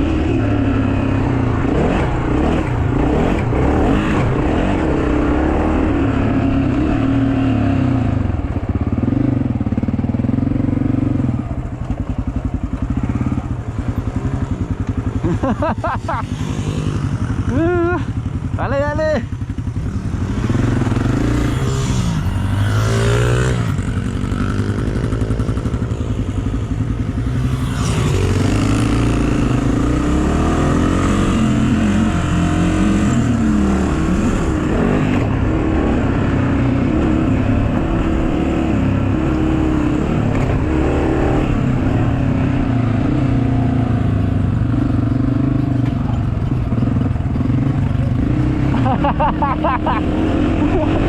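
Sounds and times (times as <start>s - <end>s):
motorbike engine revving: 0.0s - 51.0s.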